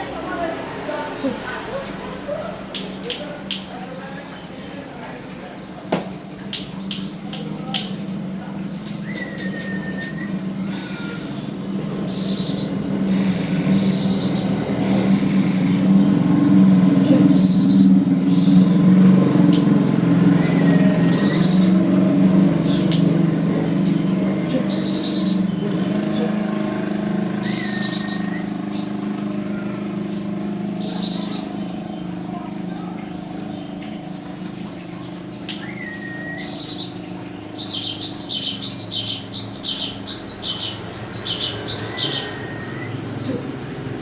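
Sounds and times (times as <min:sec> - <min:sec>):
songbird chirping and twittering: 0:01.6 - 0:05.3, 0:06.4 - 0:43.9.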